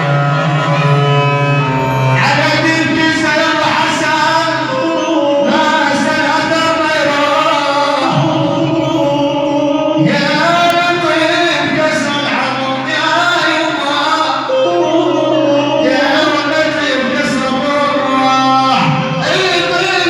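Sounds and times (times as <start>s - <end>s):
instrumental accompaniment: 0.0s - 20.0s
man singing wavering phrases: 0.0s - 20.0s.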